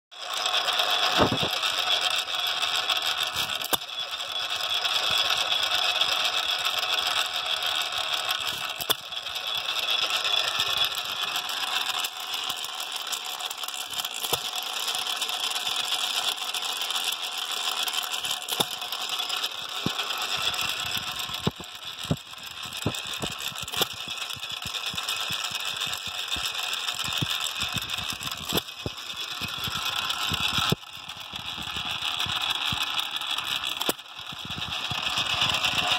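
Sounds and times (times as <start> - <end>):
engine mechanical clatter: 0.1 - 35.9.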